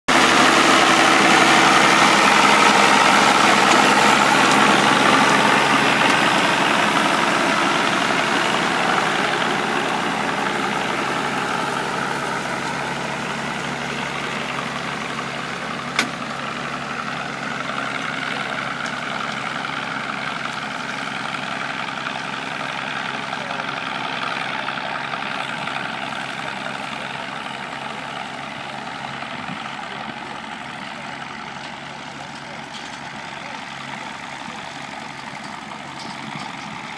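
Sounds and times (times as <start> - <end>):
tractor diesel engine: 0.0 - 36.9.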